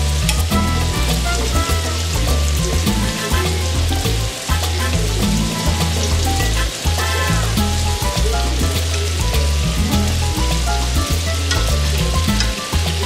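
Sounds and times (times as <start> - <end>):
background music with strong bass: 0.0 - 13.0
shrimp sizzling in oil: 0.0 - 13.0.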